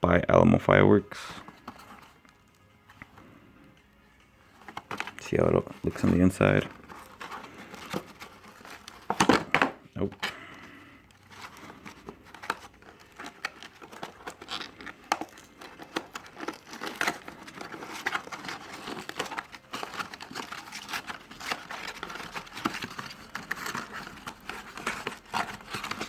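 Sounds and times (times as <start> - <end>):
plastic and paper crinkling: 0.7 - 26.0.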